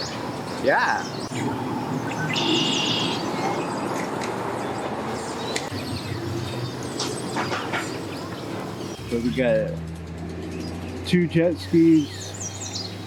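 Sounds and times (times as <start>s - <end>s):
birds chirping: 0.0s - 13.0s
boat engines rumbling: 0.0s - 13.0s.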